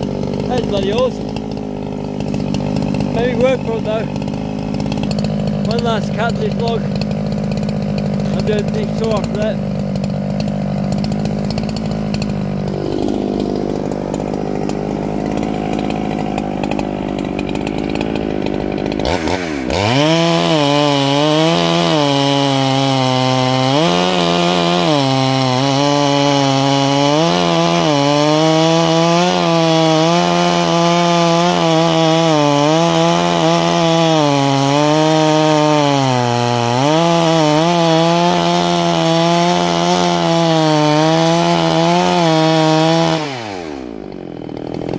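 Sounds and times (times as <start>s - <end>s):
chainsaw cutting log: 0.0s - 44.9s
chainsaw engine idling and revving: 0.0s - 44.9s.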